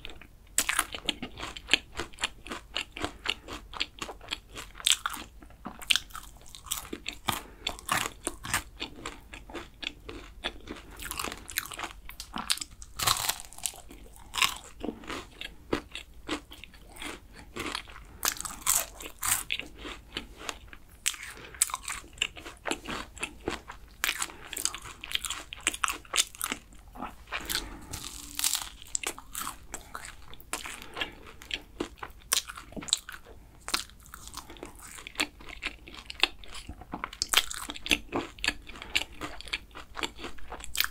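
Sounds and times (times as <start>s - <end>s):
crunchy pastry chewing: 0.0s - 40.9s.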